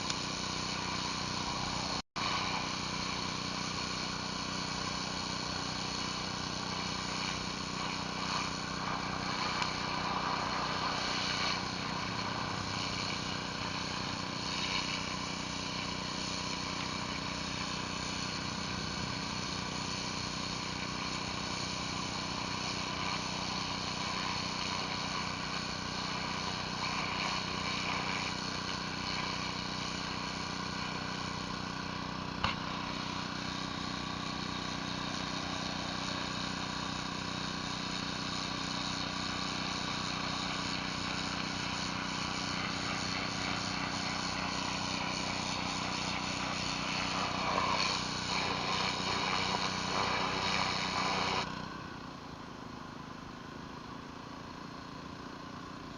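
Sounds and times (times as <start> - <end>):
water spray hissing on concrete: 0.0 - 51.6
pressure washer engine running: 0.0 - 55.9.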